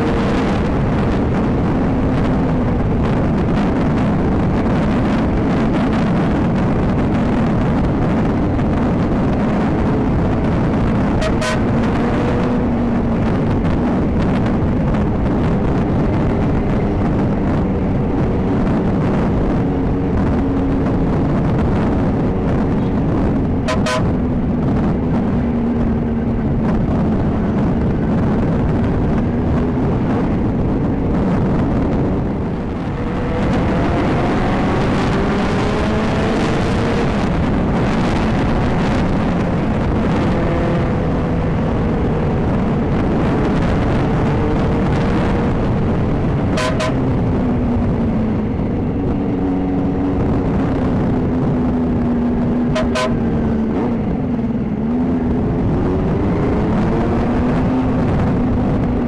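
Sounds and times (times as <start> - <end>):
wind rush: 0.0 - 59.0.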